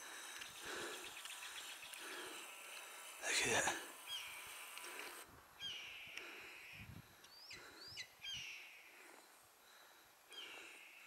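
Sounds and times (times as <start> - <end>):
woodpeckers calling: 0.0 - 11.0.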